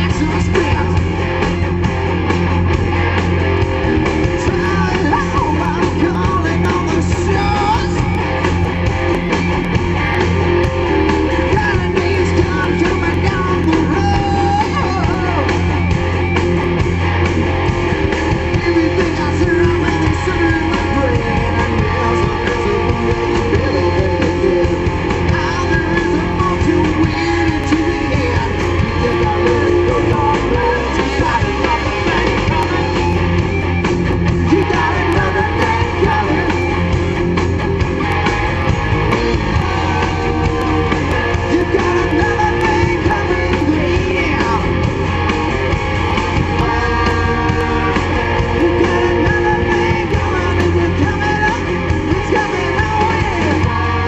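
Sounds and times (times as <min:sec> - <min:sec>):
lead vocal singing: 0:00.0 - 0:01.4, 0:03.8 - 0:09.1, 0:10.0 - 0:16.3, 0:17.4 - 0:54.0
drums: 0:00.0 - 0:54.0
electric guitars: 0:00.0 - 0:54.0.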